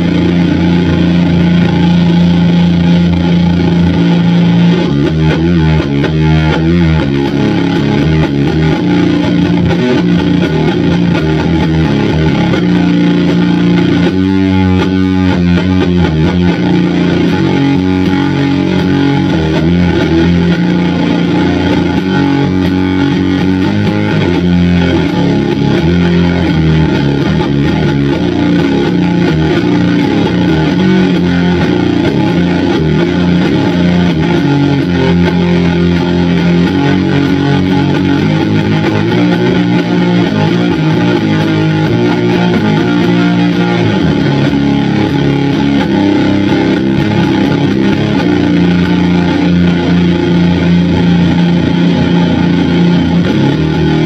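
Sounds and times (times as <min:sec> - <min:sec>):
fuzzed electric guitar riffing: 0:00.0 - 0:54.0.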